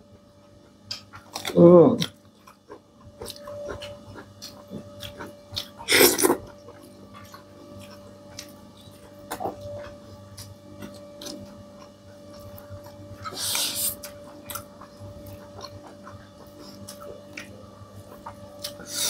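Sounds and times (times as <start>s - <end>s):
person chewing: 0.6s - 19.0s.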